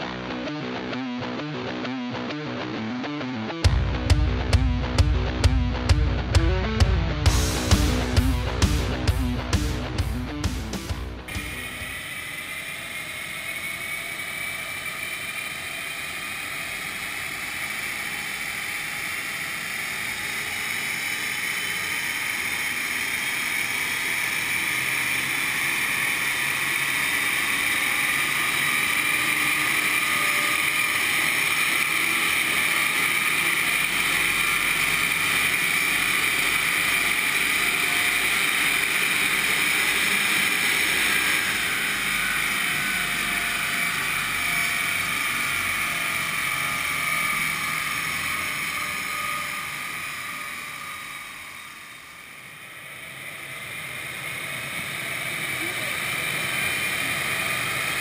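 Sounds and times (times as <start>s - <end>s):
rising whine: 0.0s - 58.0s.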